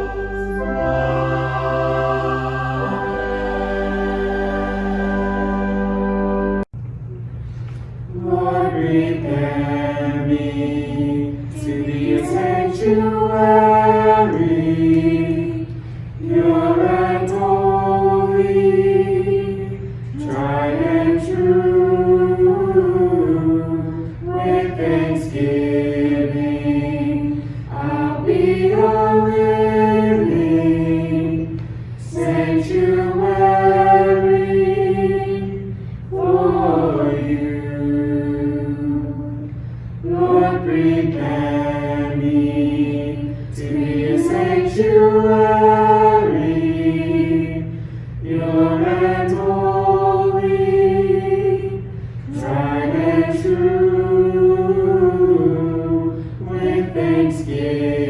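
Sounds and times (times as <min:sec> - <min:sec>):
choir singing a hymn: 0:00.0 - 0:06.6, 0:08.1 - 0:58.0.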